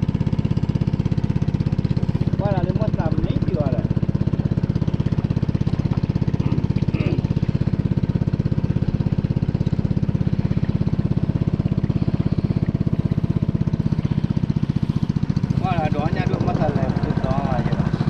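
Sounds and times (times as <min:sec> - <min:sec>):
small boat engine throbbing: 0:00.0 - 0:18.0.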